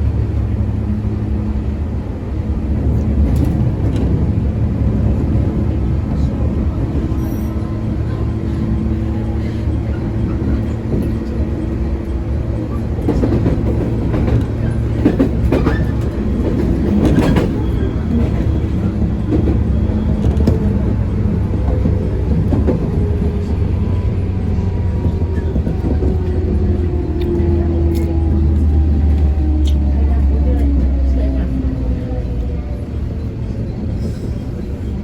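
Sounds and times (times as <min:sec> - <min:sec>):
electric train rumble and hum: 0:00.0 - 0:35.0.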